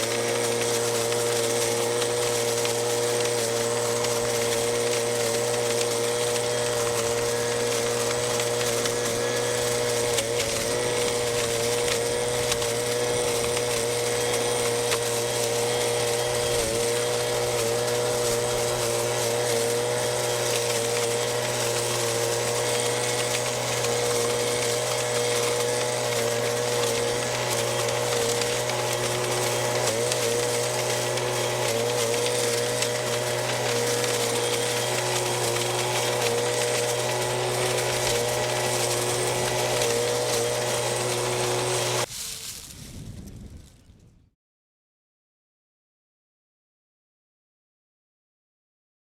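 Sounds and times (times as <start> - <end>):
leaf blower engine running: 0.0 - 42.7.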